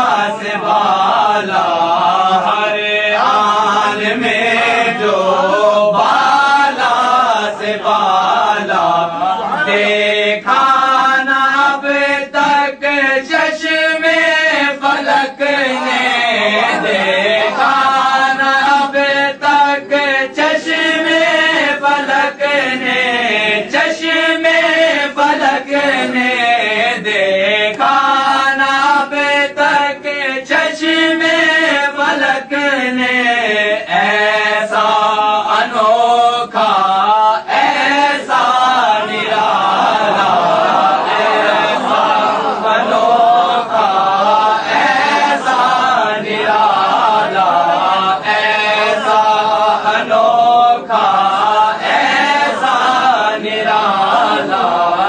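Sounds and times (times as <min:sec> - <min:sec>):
man chanting: 0:00.0 - 0:55.0.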